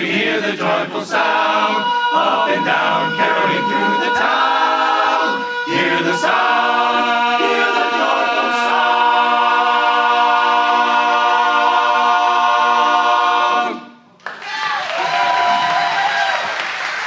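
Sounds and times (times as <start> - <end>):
barbershop chorus singing a cappella: 0.0 - 14.0.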